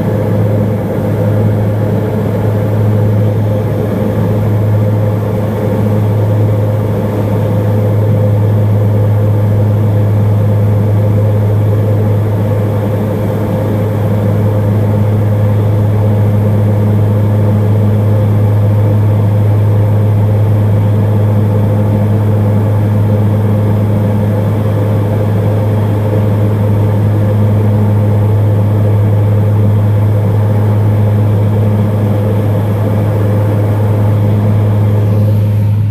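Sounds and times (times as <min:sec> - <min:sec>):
propeller plane engines droning: 0:00.0 - 0:35.9.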